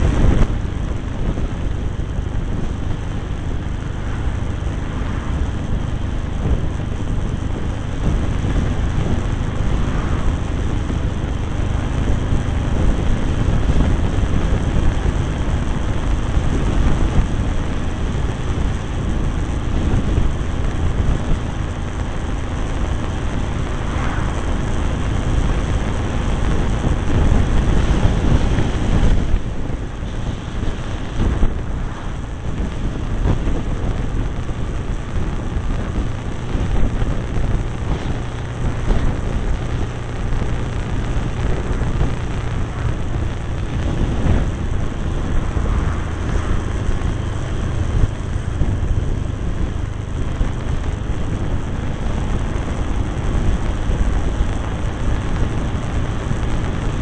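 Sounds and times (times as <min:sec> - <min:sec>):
motorcycle engine drone: 0:00.0 - 0:57.0
road noise: 0:00.0 - 0:57.0
wind buffeting microphone: 0:00.0 - 0:57.0.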